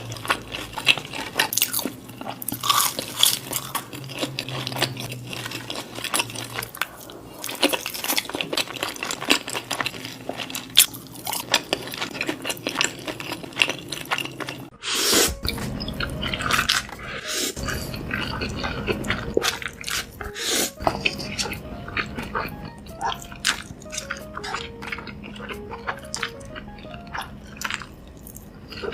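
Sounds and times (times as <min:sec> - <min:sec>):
crunchy bites and chewing: 0:00.0 - 0:14.7, 0:15.3 - 0:28.9.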